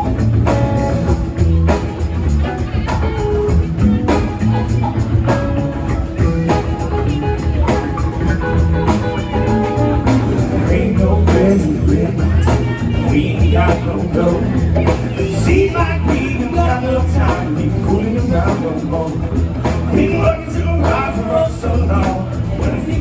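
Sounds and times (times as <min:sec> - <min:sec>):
drum kit beat: 0:00.0 - 0:23.0
guitar: 0:00.0 - 0:23.0
live band playing: 0:00.0 - 0:23.0.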